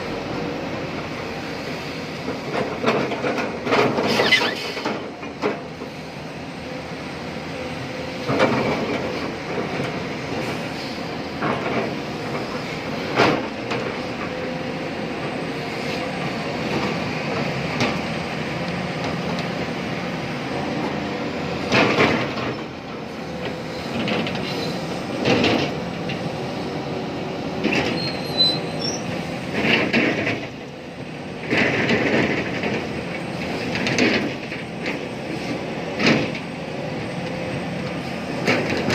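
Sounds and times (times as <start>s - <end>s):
excavator engine and hydraulic drone: 0.0s - 38.9s.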